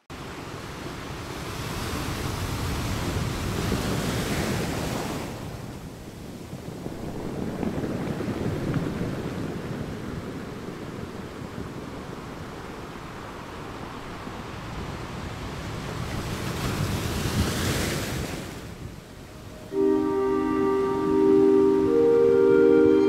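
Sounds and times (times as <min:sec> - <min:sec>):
small waves washing on shore: 0:00.2 - 0:19.8
wind buffeting microphone: 0:00.6 - 0:19.8.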